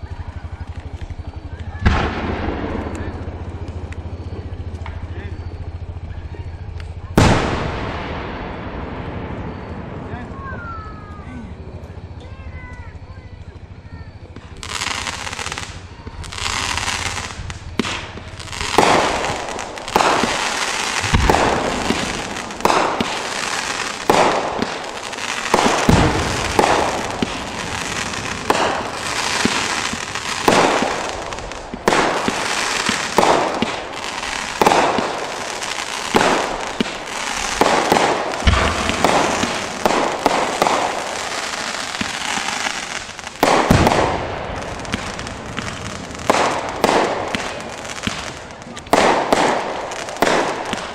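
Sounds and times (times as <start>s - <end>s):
deep fireworks booms: 0.0s - 50.9s
fireworks bursting: 0.0s - 50.9s
fireworks crackling: 0.0s - 50.9s.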